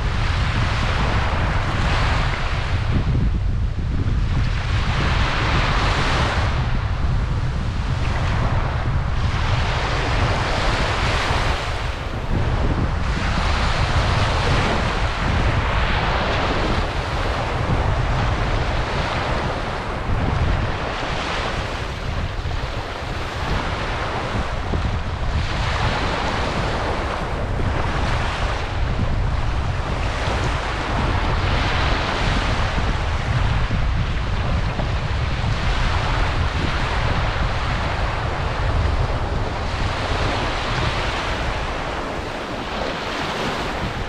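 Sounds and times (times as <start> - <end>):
sea waves washing over sand: 0.0 - 44.0
wind rumble on microphone: 0.0 - 44.0.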